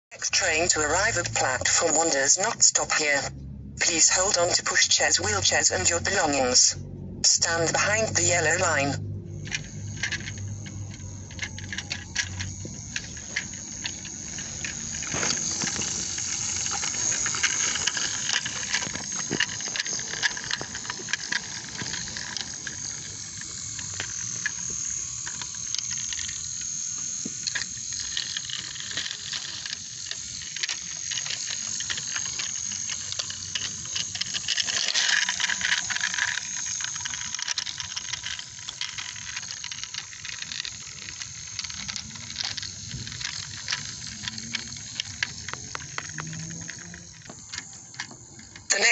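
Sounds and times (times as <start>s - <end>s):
toy train motor whine: 0.1s - 48.9s
wheels clicking and rattling: 0.2s - 3.2s, 3.8s - 6.6s, 7.4s - 48.9s.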